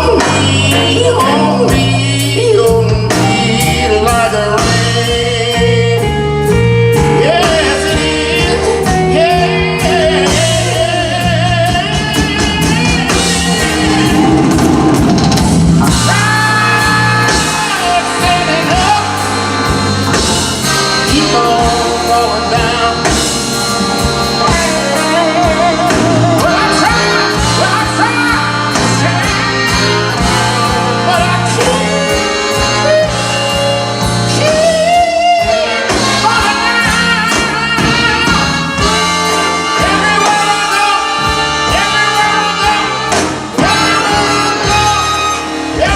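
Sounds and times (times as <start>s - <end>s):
live blues band playing: 0.0s - 45.9s
person singing: 0.0s - 45.9s.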